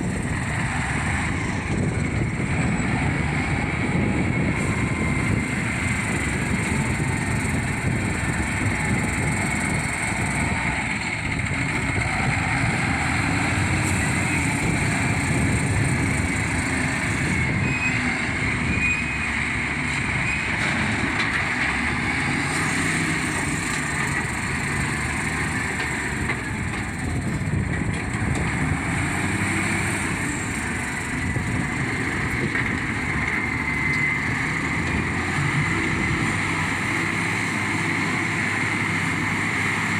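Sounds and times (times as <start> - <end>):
diesel engine rumble: 0.0 - 39.9
machinery whine: 0.0 - 39.9.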